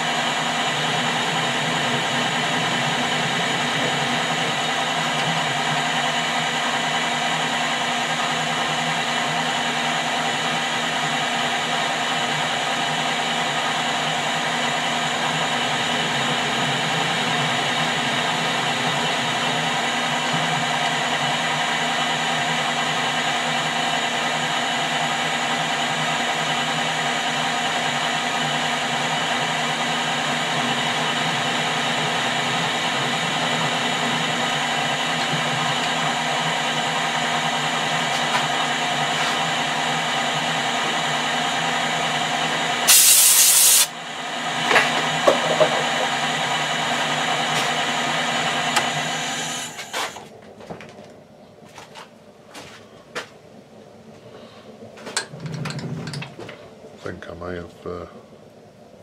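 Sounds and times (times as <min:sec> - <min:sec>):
metal lathe running: 0:00.0 - 0:49.9.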